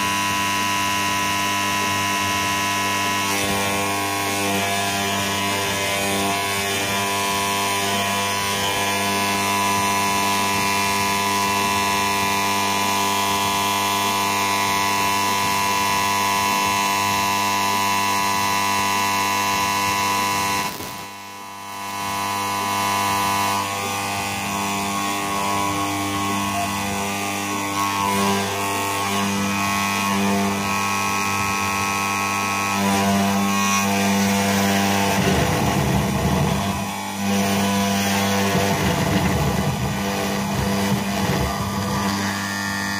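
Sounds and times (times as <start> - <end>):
milling machine whine: 0.0 - 42.9.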